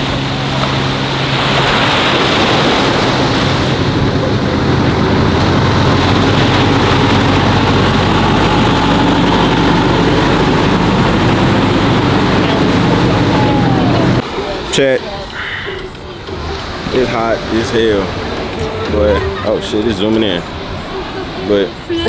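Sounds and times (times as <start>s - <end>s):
diesel engine running: 0.0s - 22.0s
surf breaking on shore: 0.0s - 22.0s.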